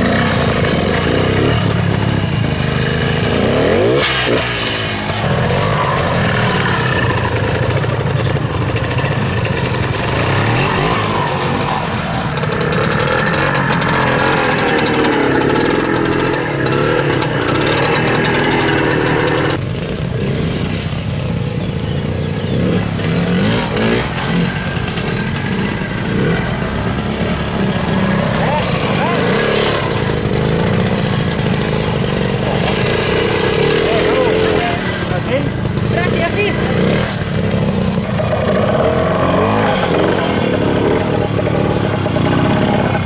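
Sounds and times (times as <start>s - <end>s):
two-stroke motorcycles revving: 0.0s - 43.0s.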